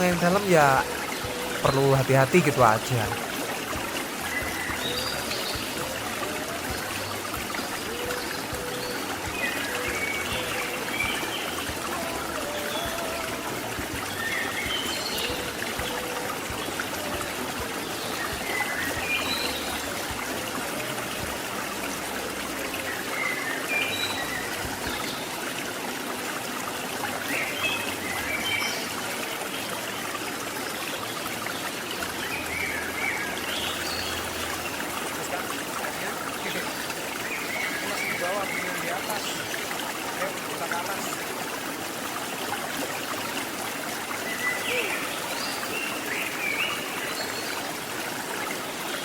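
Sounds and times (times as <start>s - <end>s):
river water flowing over rocks: 0.0s - 49.0s.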